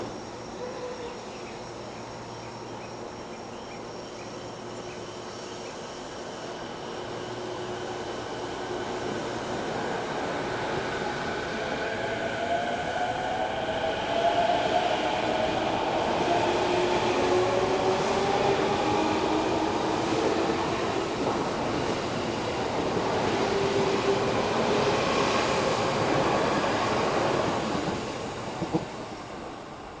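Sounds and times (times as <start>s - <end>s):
crickets chirping: 0.0s - 30.0s
electric train humming: 3.8s - 30.0s.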